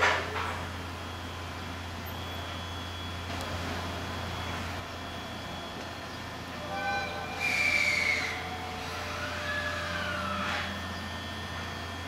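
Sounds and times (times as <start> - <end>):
steady low hum: 0.0 - 12.0
train wheels squealing on rails: 0.5 - 12.0.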